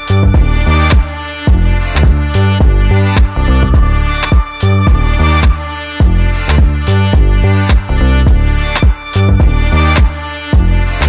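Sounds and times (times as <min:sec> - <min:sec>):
steady drum beat: 0:00.0 - 0:10.8
deep bass line: 0:00.0 - 0:11.0.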